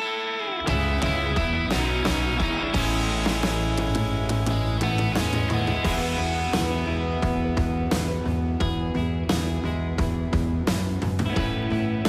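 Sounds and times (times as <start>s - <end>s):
music with held notes and beat: 0.0s - 12.0s.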